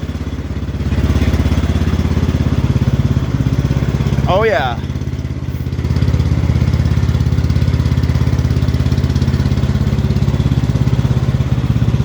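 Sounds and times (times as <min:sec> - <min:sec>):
garden tractor engine running: 0:00.0 - 0:12.0.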